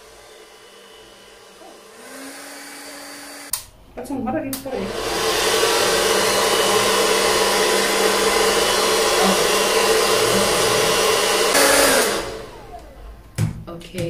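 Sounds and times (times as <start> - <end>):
hair dryer blowing: 0.0 - 3.7, 4.7 - 13.6.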